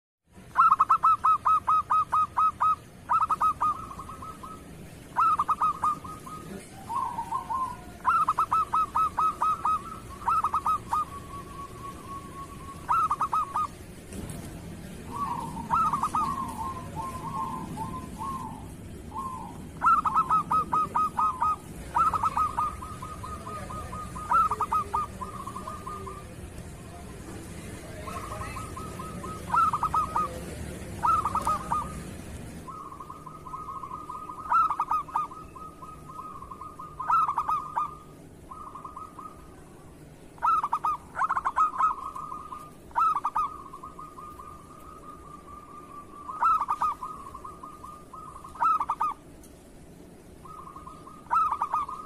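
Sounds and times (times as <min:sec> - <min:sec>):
dove cooing: 0:00.4 - 0:52.0.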